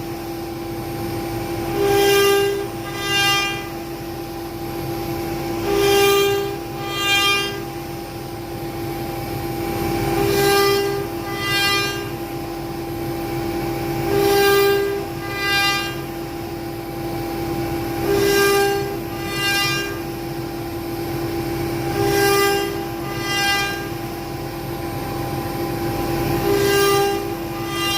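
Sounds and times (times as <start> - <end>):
cnc router spindle whine: 0.0 - 27.9
pitched motor whine: 0.0 - 27.9.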